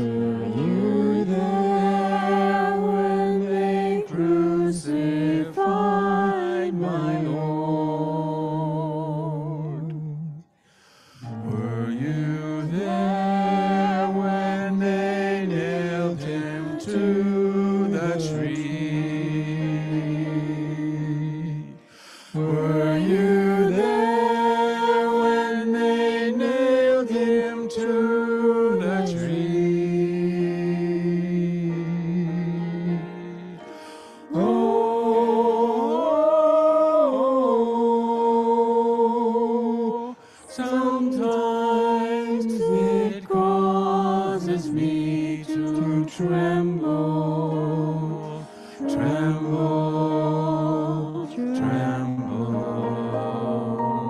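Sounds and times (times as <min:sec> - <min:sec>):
voices singing a sacred song: 0:00.0 - 0:10.5, 0:11.1 - 0:54.0.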